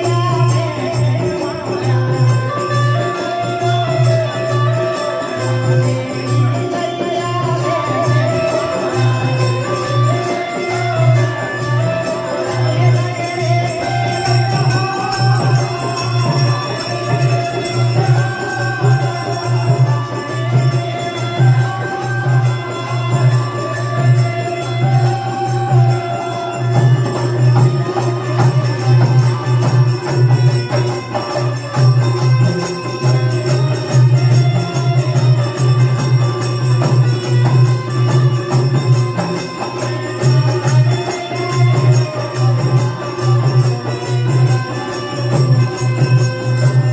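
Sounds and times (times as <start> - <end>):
devotional music with rhythm: 0.0 - 46.9.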